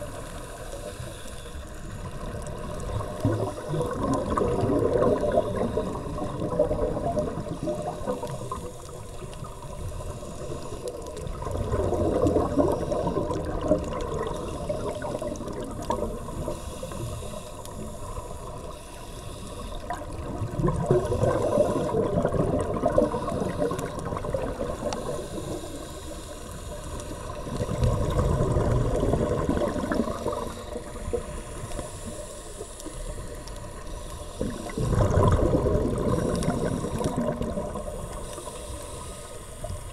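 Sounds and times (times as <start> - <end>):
scuba bubbles gurgling: 0.0 - 39.9
underwater hiss: 0.0 - 39.9.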